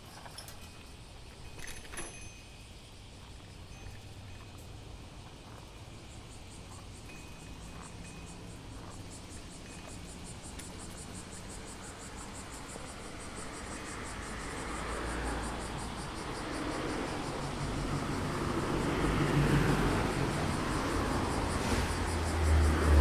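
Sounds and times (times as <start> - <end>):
approaching vehicle: 3.4 - 23.0.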